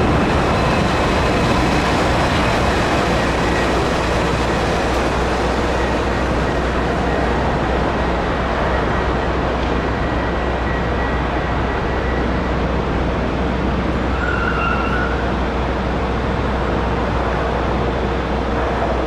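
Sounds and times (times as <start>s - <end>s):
jet engines at take-off thrust: 0.0s - 19.0s.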